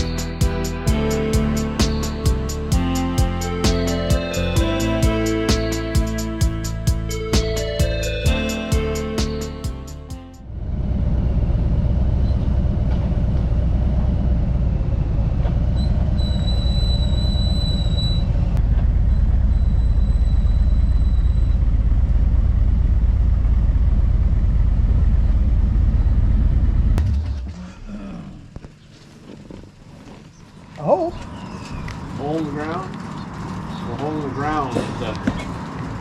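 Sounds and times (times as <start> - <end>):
motorcycle engine drone: 0.0 - 36.0.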